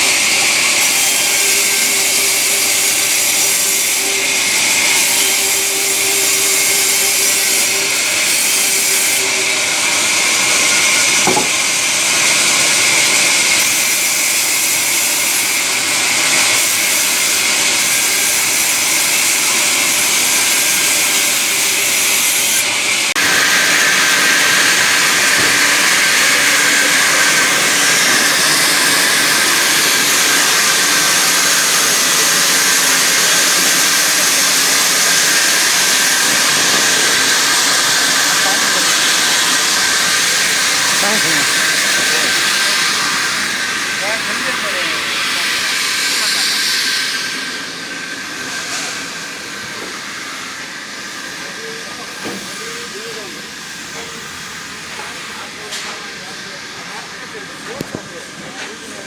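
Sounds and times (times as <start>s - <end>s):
saw cutting timber: 0.0s - 59.0s.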